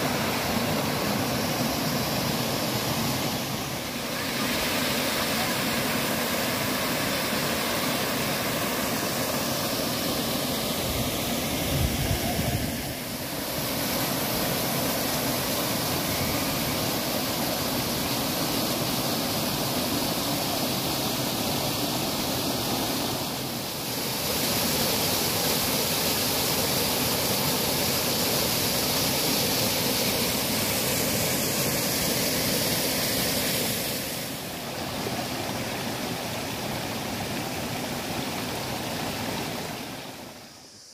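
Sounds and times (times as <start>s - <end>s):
waterfall rushing over rock: 0.0s - 40.9s.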